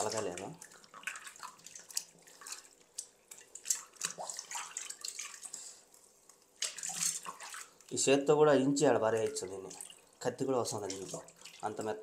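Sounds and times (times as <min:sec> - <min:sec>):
water splashing in a metal pot: 0:00.0 - 0:05.6, 0:06.5 - 0:08.1, 0:09.0 - 0:12.0.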